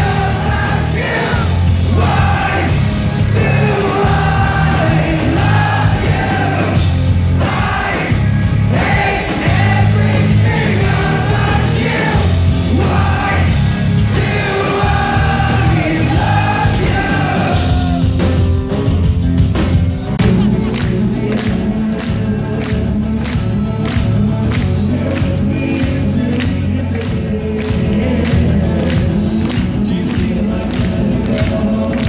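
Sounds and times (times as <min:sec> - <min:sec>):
lead vocal singing: 0:00.0 - 0:18.5, 0:20.0 - 0:32.0
rock band playing live: 0:00.0 - 0:32.0.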